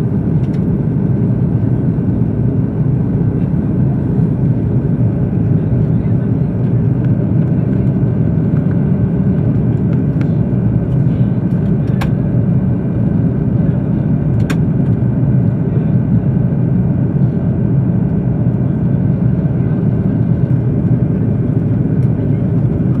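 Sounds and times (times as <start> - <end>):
aircraft cabin rumble: 0.0 - 23.0.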